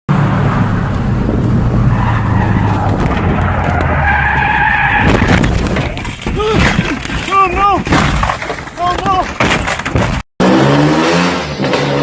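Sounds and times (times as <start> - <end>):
tyres skidding: 0.1 - 12.0.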